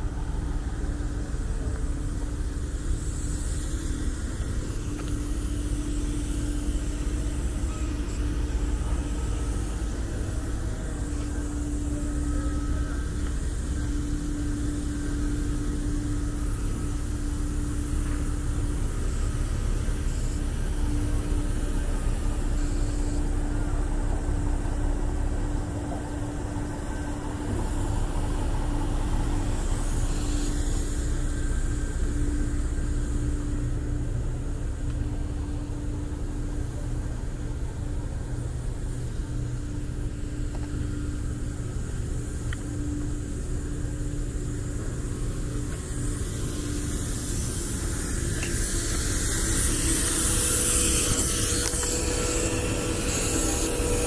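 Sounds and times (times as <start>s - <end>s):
hissy noise: 0.0s - 54.0s
machinery engine drone: 0.0s - 54.0s.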